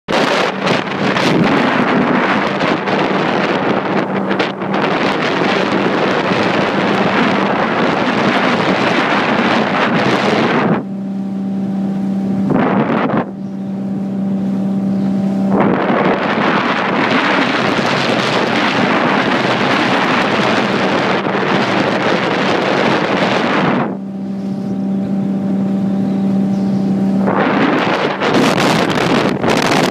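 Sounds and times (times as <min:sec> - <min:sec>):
motorboat engine running: 0:00.0 - 0:29.9
wind buffeting microphone: 0:00.1 - 0:29.9.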